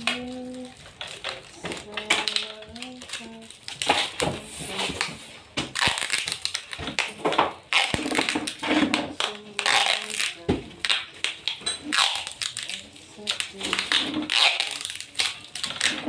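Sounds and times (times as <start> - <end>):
foil crinkling and rustling: 0.0 - 16.0.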